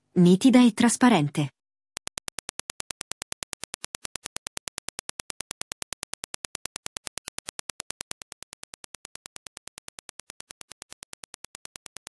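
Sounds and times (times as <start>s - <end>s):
rapid train of sharp clicks: 2.0s - 12.0s.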